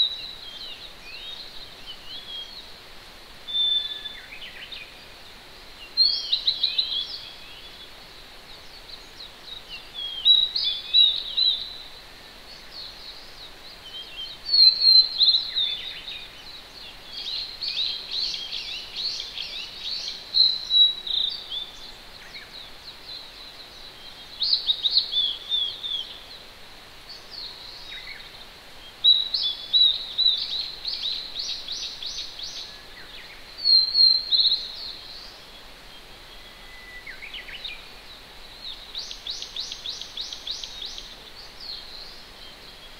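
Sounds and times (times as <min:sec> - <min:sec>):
distant stream: 0:00.0 - 0:42.9
songbirds singing: 0:00.0 - 0:42.9.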